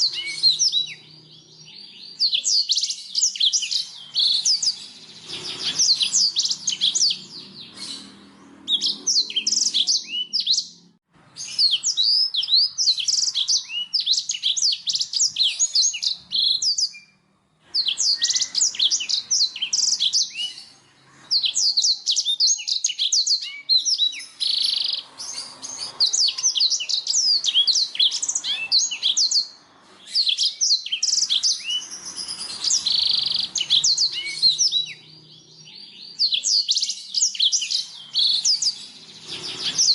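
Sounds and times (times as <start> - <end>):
canary singing high twittering song: 0.0 - 39.9.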